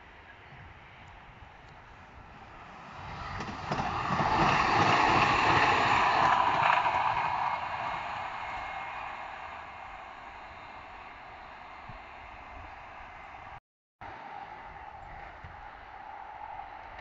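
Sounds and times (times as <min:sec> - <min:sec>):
tram wheels rushing on rail: 0:00.0 - 0:17.0.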